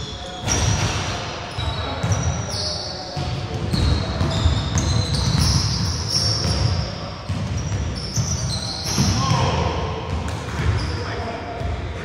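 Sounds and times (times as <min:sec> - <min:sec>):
sneakers squeaking: 0:00.0 - 0:11.8.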